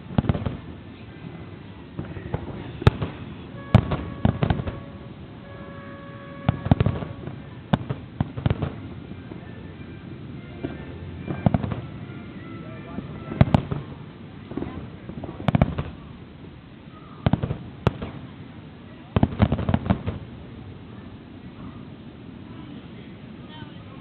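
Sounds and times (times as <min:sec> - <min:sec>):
fireworks booming: 0:00.0 - 0:09.5, 0:10.5 - 0:12.2, 0:12.9 - 0:22.0.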